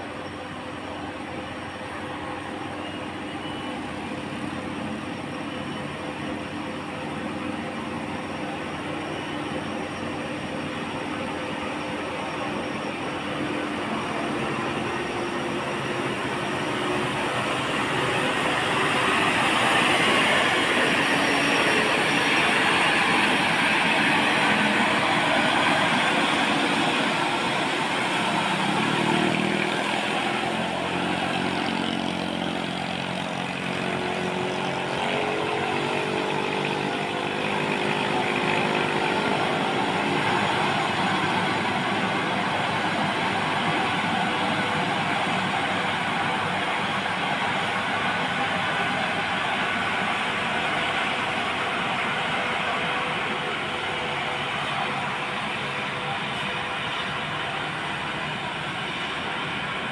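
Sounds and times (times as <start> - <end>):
road and traffic noise: 0.0 - 59.9
truck diesel engine running: 0.0 - 59.9.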